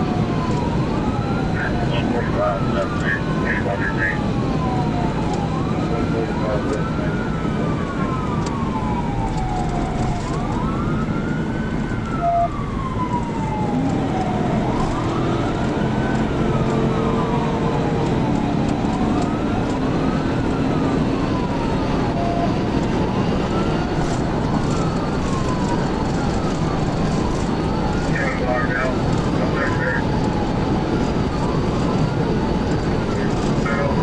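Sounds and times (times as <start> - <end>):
police siren wailing: 0.0 - 34.0
road and engine noise: 0.0 - 34.0.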